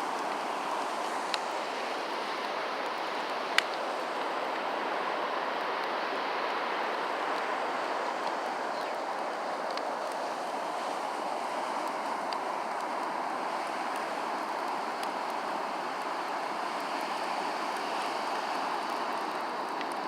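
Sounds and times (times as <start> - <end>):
bonfire burning hiss: 0.0 - 20.0
faint crackles: 0.0 - 20.0.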